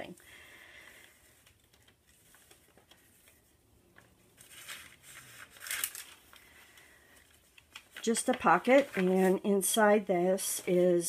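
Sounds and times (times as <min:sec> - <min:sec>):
paper pages rustling: 0:00.9 - 0:11.0.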